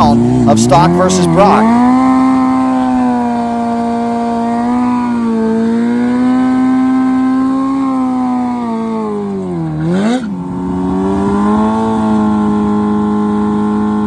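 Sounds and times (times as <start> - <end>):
motorcycle engine revving: 0.0 - 14.0
rear tyre spinning: 0.0 - 14.0.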